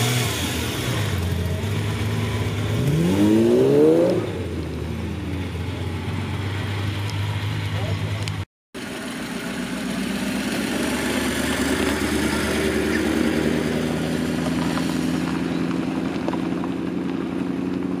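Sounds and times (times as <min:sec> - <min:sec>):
car engine passing: 0:00.0 - 0:08.2, 0:08.8 - 0:18.0.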